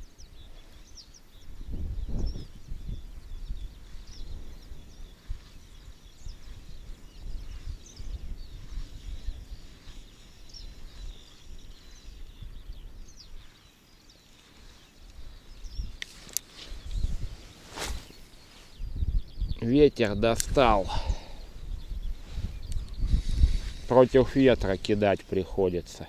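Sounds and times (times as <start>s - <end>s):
wind buffeting microphone: 0.0s - 13.8s, 14.5s - 25.8s
small birds chirping: 0.0s - 26.0s.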